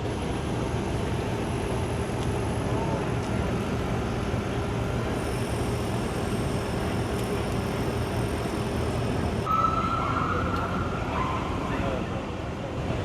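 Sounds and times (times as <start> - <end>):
city traffic rumble: 0.0 - 13.0
faint steady hum: 0.0 - 13.0.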